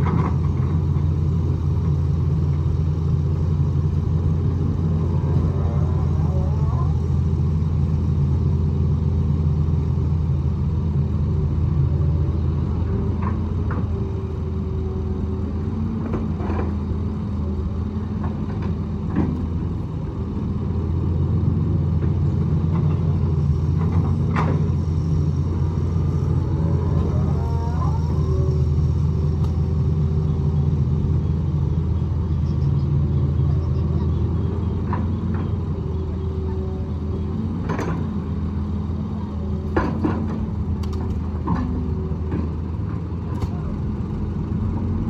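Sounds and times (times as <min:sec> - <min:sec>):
excavator diesel engine: 0:00.0 - 0:45.0.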